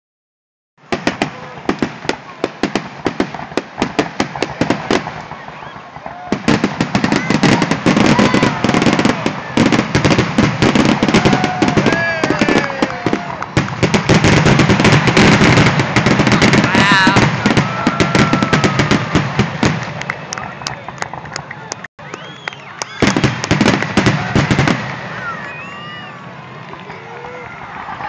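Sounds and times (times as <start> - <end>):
fireworks popping and banging: 0.8 - 28.0.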